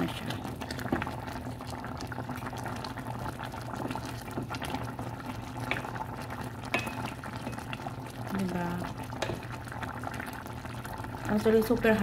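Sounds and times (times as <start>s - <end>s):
noodles bubbling in boiling broth: 0.0s - 12.0s.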